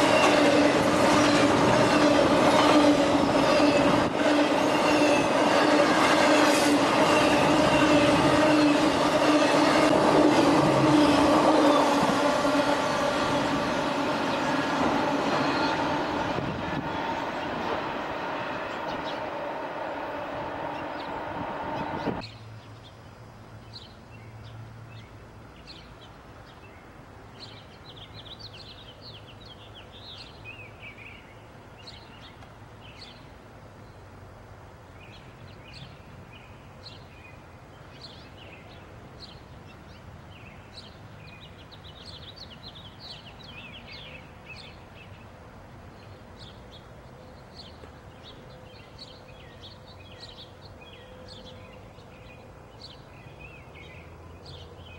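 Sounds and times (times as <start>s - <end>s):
songbirds chirping: 6.3s - 54.9s.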